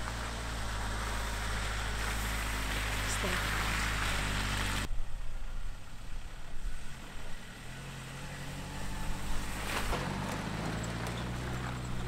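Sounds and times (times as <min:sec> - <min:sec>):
pickup engine humming: 0:00.0 - 0:04.9, 0:05.5 - 0:12.0.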